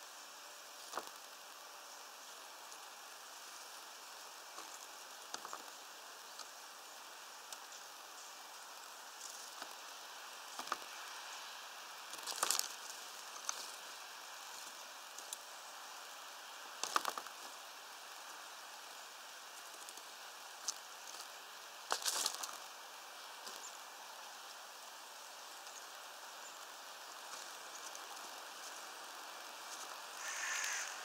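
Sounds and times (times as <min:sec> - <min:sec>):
light rain hiss: 0:00.0 - 0:31.0.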